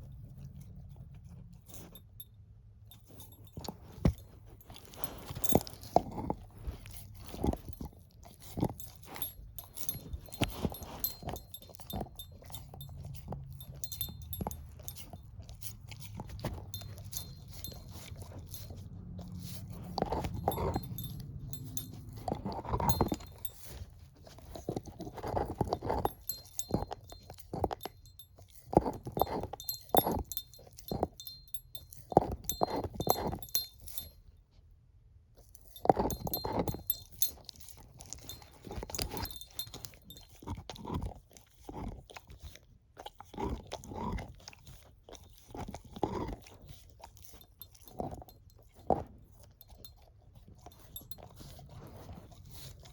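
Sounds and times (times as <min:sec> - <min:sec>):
dog chewing a bone: 0:00.0 - 0:34.6, 0:35.2 - 0:52.9.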